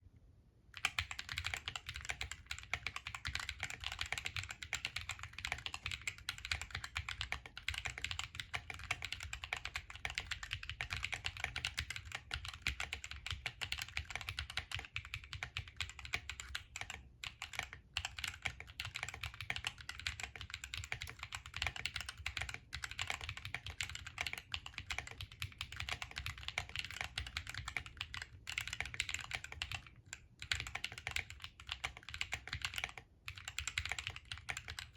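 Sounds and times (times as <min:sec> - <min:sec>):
mechanical keyboard typing: 0:00.8 - 0:34.9.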